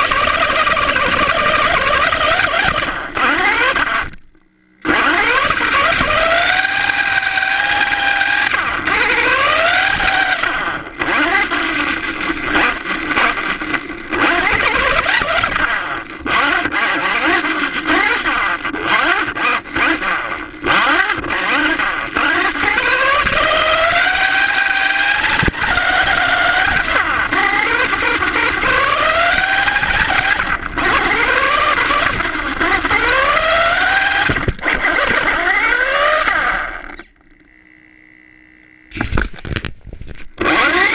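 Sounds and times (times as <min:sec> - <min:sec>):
rc car motor whining: 0:00.0 - 0:39.3, 0:40.2 - 0:40.9.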